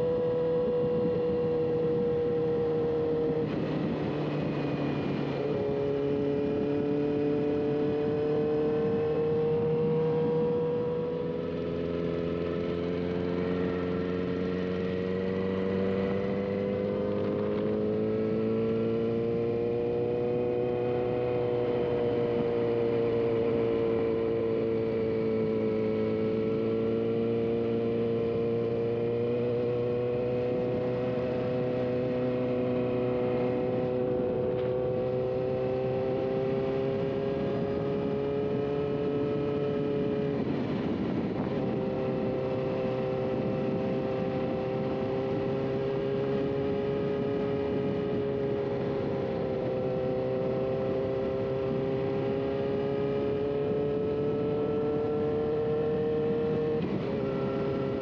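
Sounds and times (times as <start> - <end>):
vehicle engine cruising: 0.0 - 58.0.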